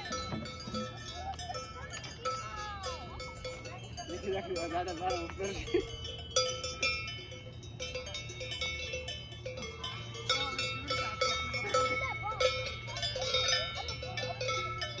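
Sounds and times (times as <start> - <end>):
cowbells ringing and clanging: 0.0 - 15.0.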